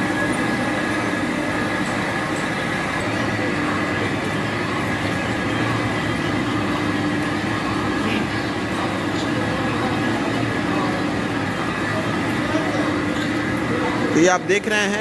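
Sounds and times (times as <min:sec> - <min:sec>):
machinery low hum: 0:00.0 - 0:15.0
motor whine: 0:00.0 - 0:15.0.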